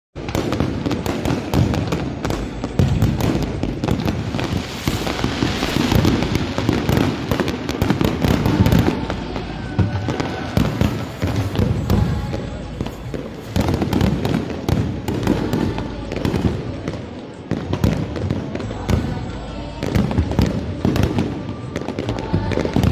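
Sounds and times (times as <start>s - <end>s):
fireworks bangs and crackling: 0.2s - 22.9s.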